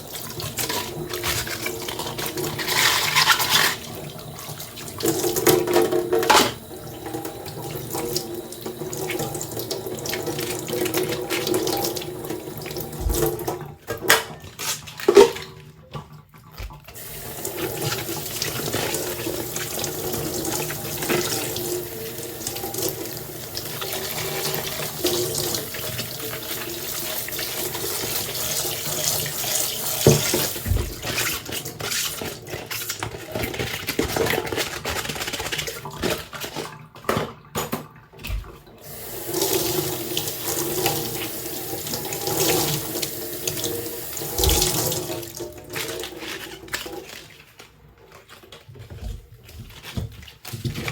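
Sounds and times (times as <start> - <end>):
tap running into sink: 0.1 - 34.8, 35.9 - 46.9.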